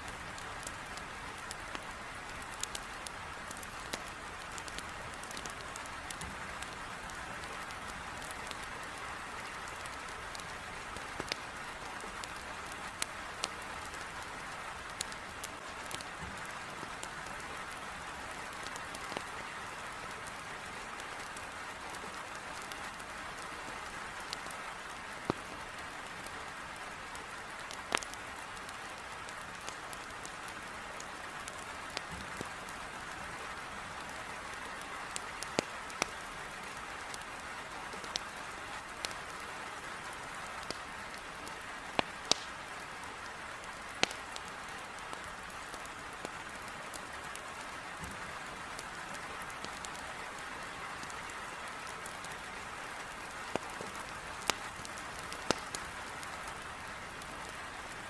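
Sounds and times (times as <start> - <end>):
heavy rain on a window: 0.0 - 58.0
firewood popping and crackling: 0.1 - 20.5, 21.2 - 23.6, 24.2 - 26.3, 27.4 - 32.7, 34.7 - 39.4, 40.1 - 58.0.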